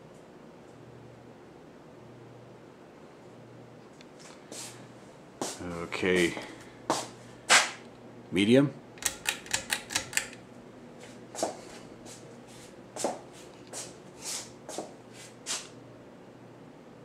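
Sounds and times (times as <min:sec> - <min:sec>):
ceiling fan motor hum: 0:00.0 - 0:17.0.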